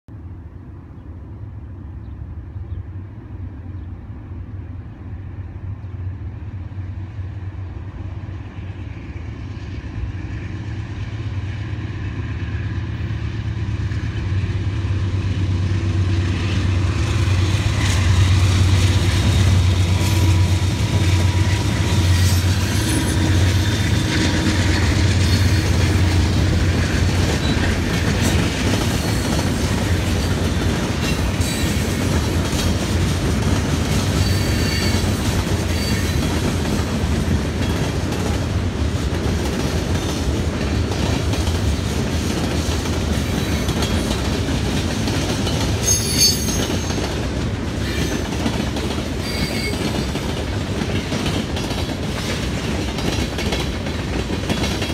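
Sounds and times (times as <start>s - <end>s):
diesel locomotive engine drone: 0.1s - 54.9s
freight cars rolling on rails: 7.6s - 54.9s.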